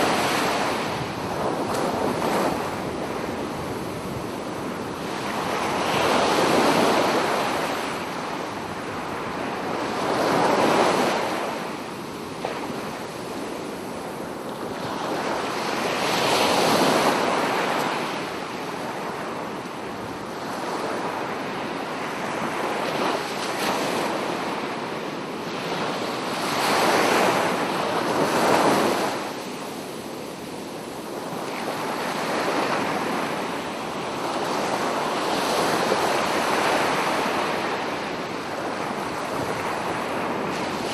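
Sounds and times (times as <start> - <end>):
waves breaking on a beach: 0.0 - 40.9.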